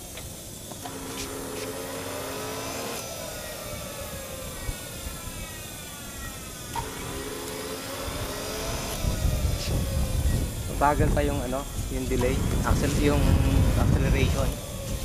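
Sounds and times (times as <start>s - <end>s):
low motor hum: 0.0s - 15.0s
turbine engine whining: 0.0s - 15.0s.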